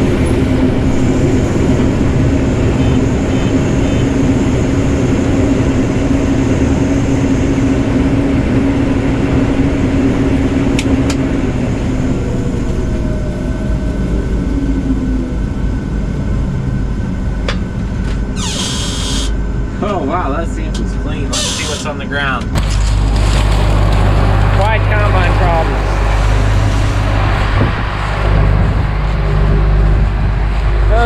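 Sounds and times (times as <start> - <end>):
combine harvester droning: 0.0 - 31.0.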